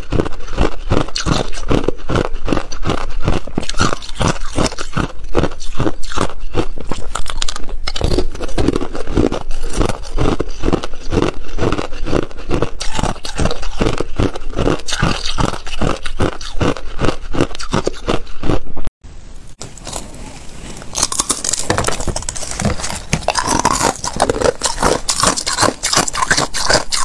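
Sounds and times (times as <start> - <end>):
ice crunching being chewed: 0.0 - 18.6, 19.6 - 27.0.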